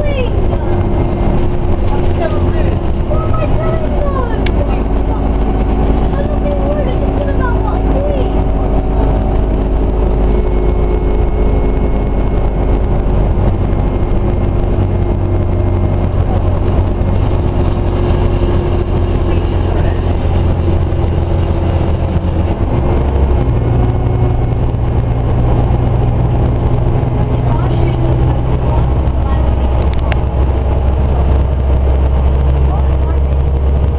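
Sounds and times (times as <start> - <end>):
bus engine hum: 0.0 - 33.9.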